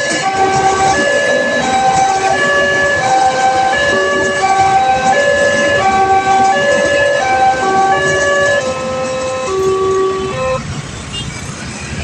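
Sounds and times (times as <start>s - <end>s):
electronic crossing siren tune: 0.0s - 10.7s
low traffic rumble: 0.0s - 12.0s.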